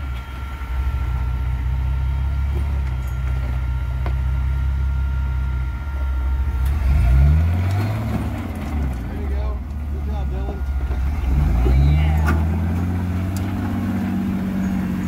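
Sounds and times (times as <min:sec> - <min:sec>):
engine at low revs: 0:00.0 - 0:15.0.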